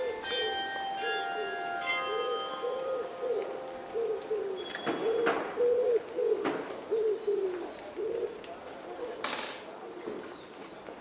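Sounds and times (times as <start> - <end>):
pigeon cooing: 0.0 - 9.2.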